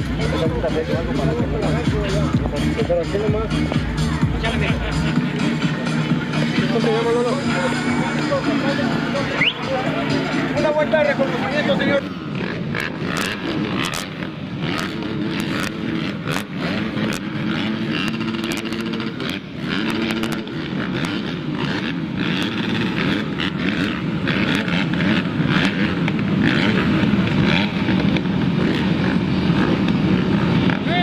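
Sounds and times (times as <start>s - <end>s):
motorbike engines revving: 0.0s - 31.0s.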